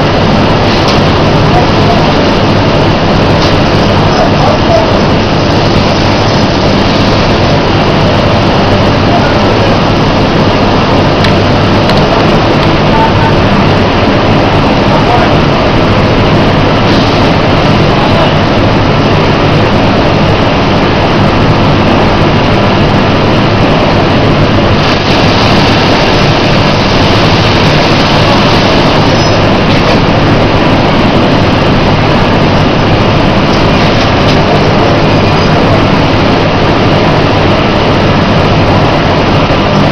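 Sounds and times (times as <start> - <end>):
feed mill machinery din: 0.0 - 39.9
low machine hum: 0.0 - 39.9.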